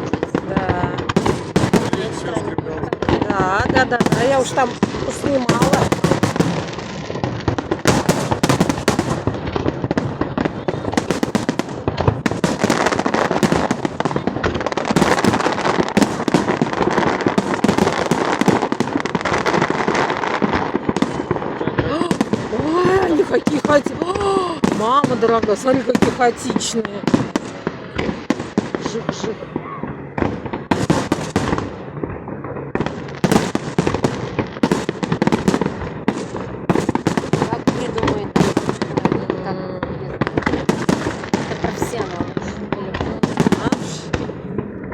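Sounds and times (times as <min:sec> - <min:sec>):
fireworks bangs and crackling pops: 0:00.0 - 0:44.9.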